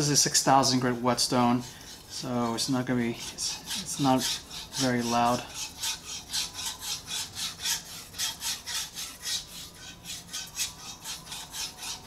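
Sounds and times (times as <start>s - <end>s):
knife scraping on whetstone: 0.0s - 12.0s.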